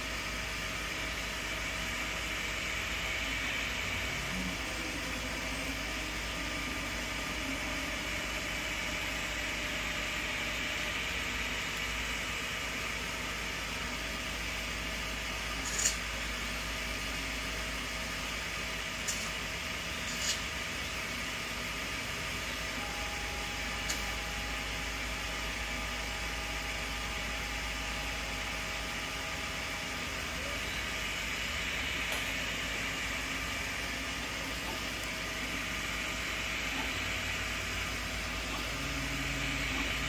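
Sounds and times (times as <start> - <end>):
cooling fans hissing: 0.0 - 40.0
thin steady whine: 0.0 - 40.0.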